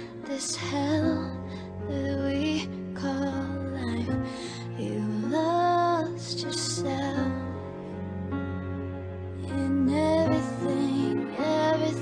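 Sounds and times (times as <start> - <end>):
woman singing pop ballad: 0.0 - 7.7, 9.4 - 12.0
soft sustained backing music: 0.0 - 12.0.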